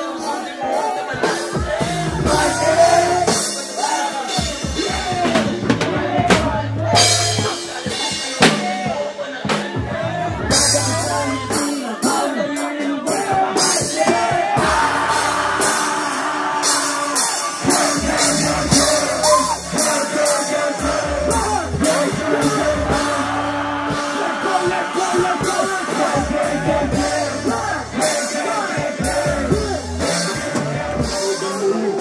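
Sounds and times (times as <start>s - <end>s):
live band playing: 0.0s - 32.0s
person singing: 0.0s - 32.0s.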